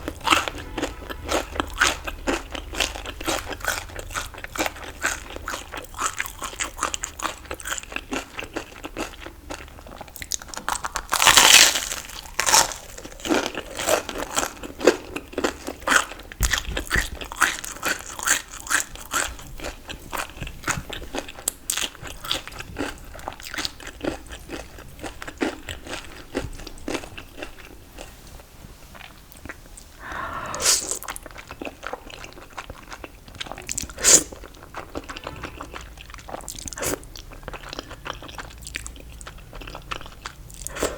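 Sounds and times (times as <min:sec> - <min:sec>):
crunching and chewing crisp food: 0:00.0 - 0:28.2, 0:28.9 - 0:40.9.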